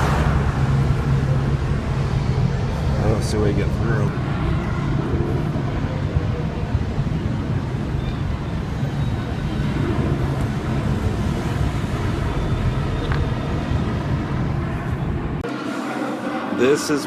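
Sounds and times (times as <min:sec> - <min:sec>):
car driving rumble: 0:00.0 - 0:15.5.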